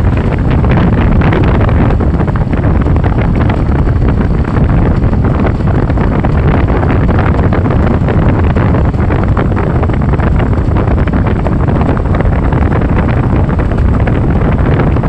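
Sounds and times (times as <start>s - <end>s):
moving vehicle rumble: 0.0s - 15.0s
wind buffeting the microphone: 0.0s - 15.0s.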